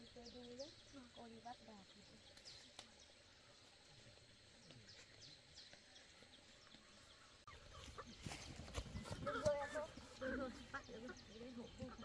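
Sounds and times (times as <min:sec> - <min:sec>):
faint high bird chirps: 0:00.0 - 0:12.0.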